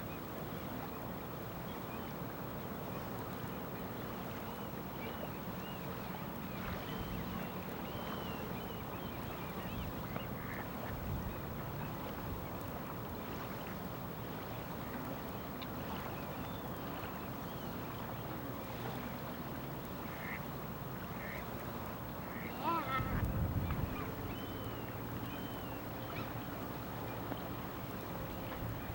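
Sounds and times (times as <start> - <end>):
faint bird calls: 2.9 - 28.9.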